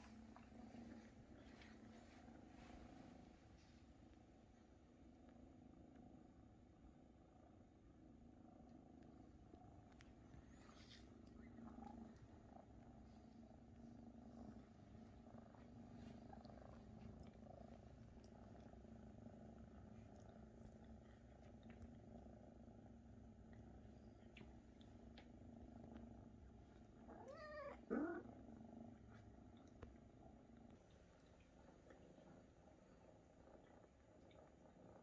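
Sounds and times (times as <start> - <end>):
kittens purring: 0.0 - 35.0.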